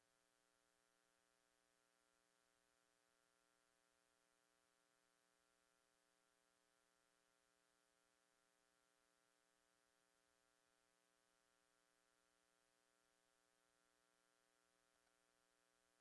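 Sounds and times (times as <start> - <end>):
faint electrical hum and hiss: 0.0 - 16.0.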